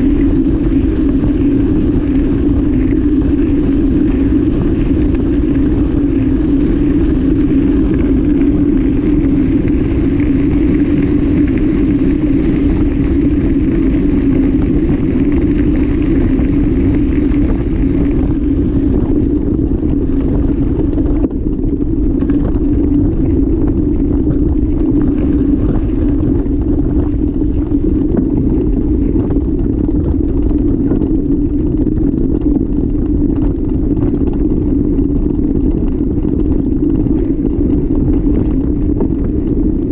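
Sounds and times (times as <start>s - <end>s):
tyre rumble: 0.0s - 39.9s
wind buffeting: 0.0s - 39.9s.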